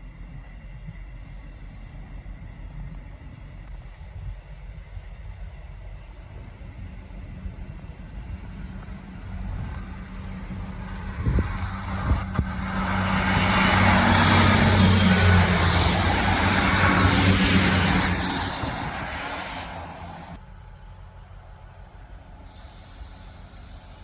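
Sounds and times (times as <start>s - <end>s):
diesel train passing: 0.0s - 24.0s.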